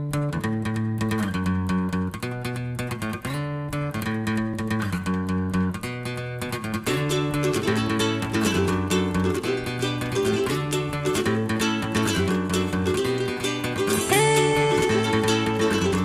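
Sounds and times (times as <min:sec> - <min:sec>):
upbeat guitar song with bass: 0:00.0 - 0:16.0.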